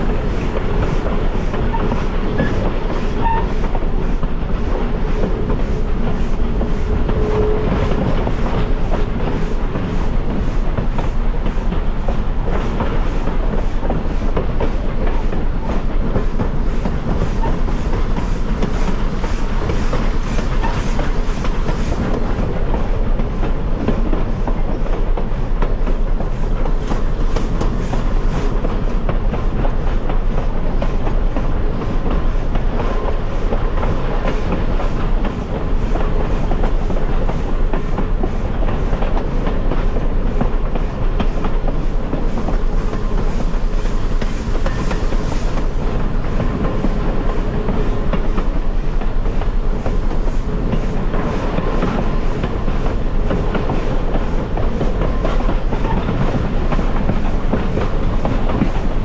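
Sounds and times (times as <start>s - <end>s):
train running rumble: 0.0s - 59.0s
train wheels clacking on rails: 0.0s - 59.0s.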